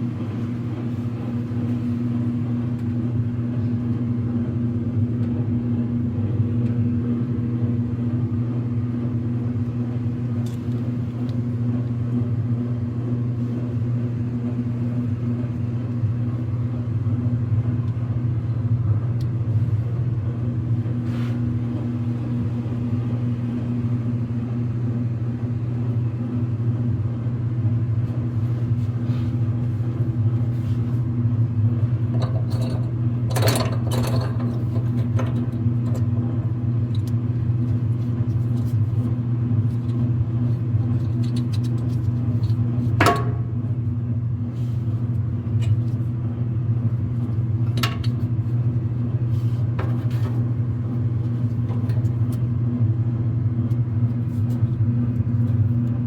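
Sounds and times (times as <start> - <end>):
clothes dryer rumbling: 0.0 - 56.0.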